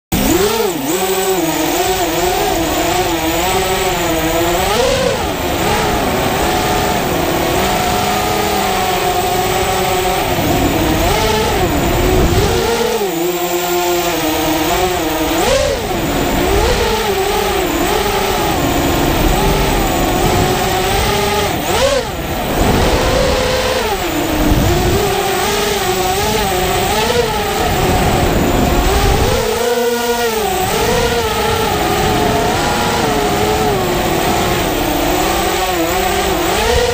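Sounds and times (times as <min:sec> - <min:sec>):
drone motors whining: 0:00.1 - 0:36.9.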